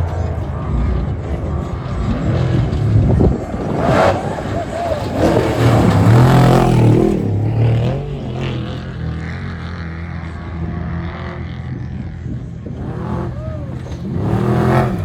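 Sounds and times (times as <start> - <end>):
vehicle engine running hard: 0.0 - 15.0.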